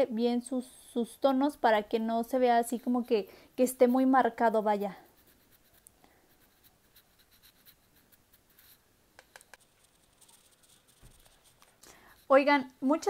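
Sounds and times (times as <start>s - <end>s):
brush scratching on eyelid: 0.6s - 12.6s.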